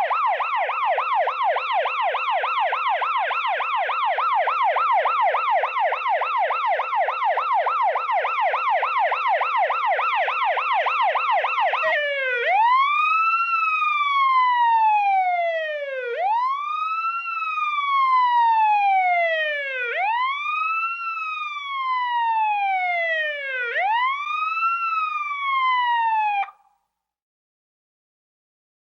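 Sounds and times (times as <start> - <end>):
police siren yelp and wail: 0.0 - 26.7.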